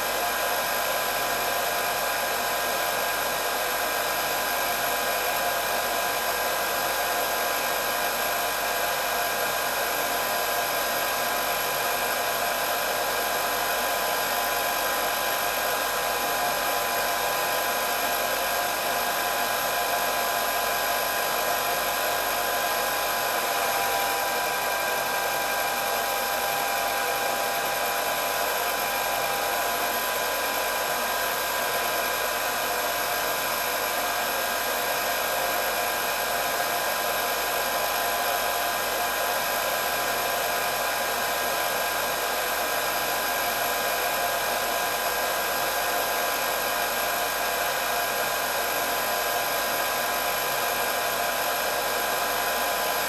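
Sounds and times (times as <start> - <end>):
hair dryer running: 0.0 - 53.0.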